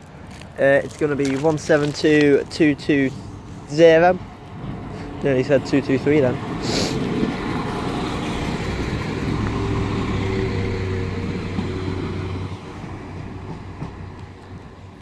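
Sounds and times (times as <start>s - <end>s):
train engine and wheel rumble: 0.0s - 15.0s.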